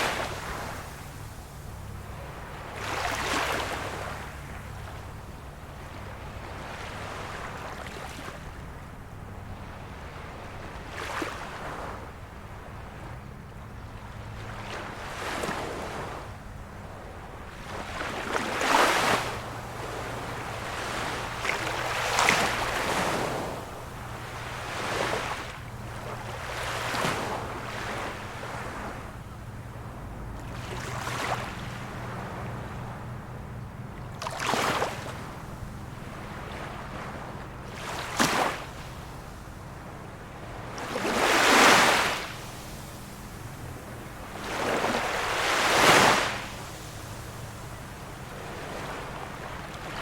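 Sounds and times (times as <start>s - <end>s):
small sea waves washing in: 0.0s - 50.0s.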